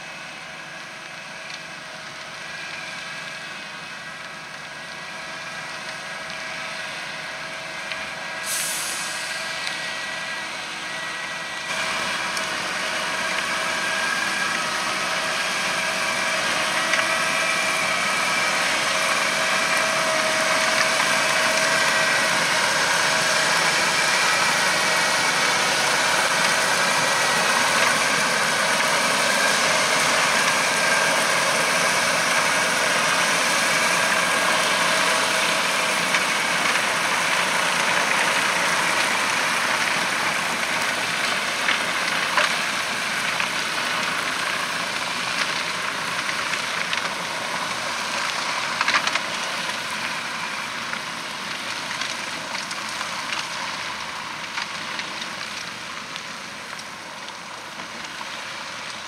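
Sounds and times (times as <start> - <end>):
muck spreader engine running: 0.0 - 59.0.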